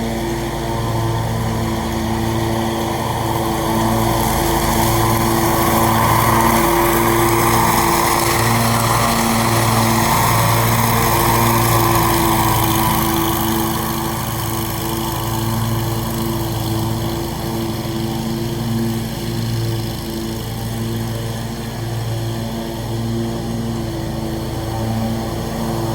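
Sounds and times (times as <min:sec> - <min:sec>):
mower engine running: 0:00.0 - 0:25.9.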